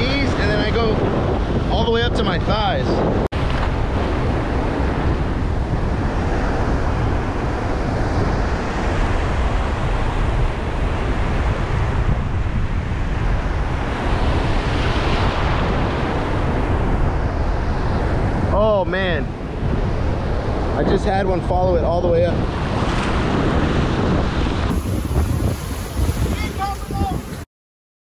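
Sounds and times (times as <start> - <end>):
wind rumbling on microphone: 0.0 - 27.5
ocean surf breaking: 3.4 - 27.4.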